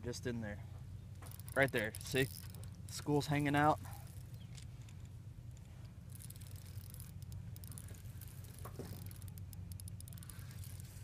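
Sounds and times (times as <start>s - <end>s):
low hum: 0.5s - 11.0s
fishing reel clicking: 1.2s - 11.0s.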